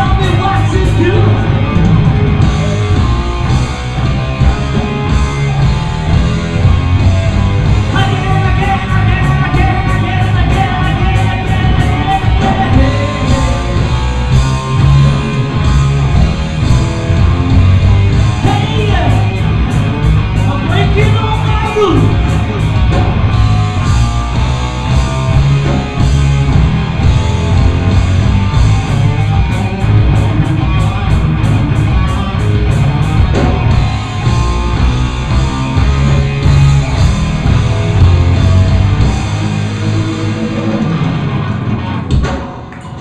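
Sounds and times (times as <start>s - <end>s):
hard rock band playing: 0.0s - 43.0s.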